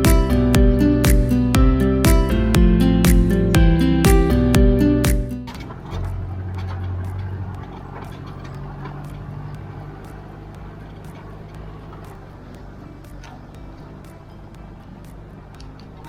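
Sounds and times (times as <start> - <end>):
guitar music: 0.0 - 16.0
low motor rumble: 0.0 - 16.0.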